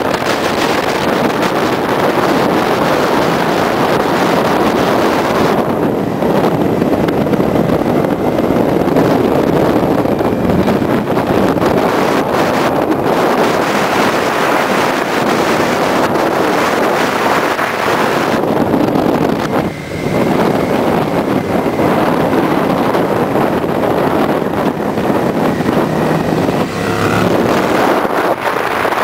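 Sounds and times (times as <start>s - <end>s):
motorcycle engines running: 0.0s - 29.0s
wind rushing over microphone: 0.0s - 29.0s.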